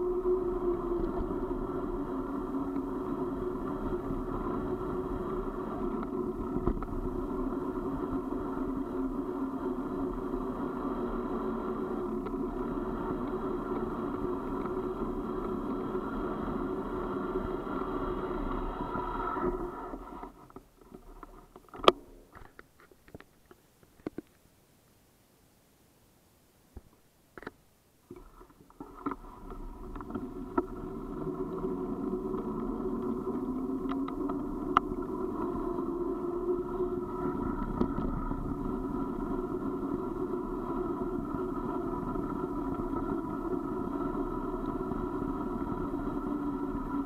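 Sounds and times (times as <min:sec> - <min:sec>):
vehicle rolling on paved road: 0:00.0 - 0:24.4, 0:28.1 - 0:47.0.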